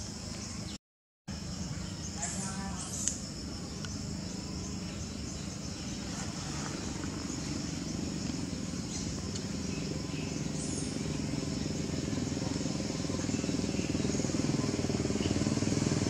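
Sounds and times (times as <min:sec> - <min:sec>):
motor engine droning: 0:00.0 - 0:16.0.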